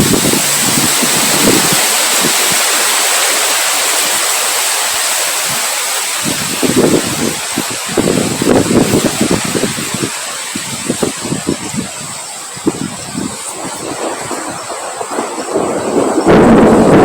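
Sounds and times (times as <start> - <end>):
low rumbling wind gusts: 0.0 - 17.0
rain hissing: 0.0 - 17.0.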